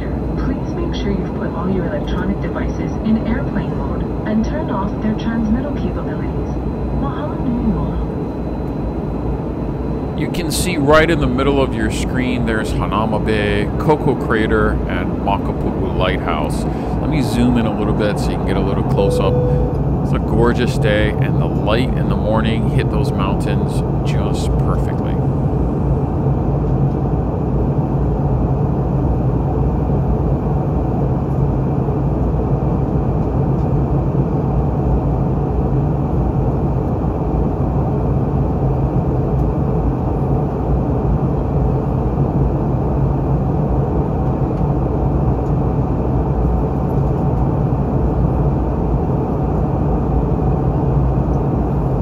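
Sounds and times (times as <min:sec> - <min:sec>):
airliner cabin engine hum: 0:00.0 - 0:52.0.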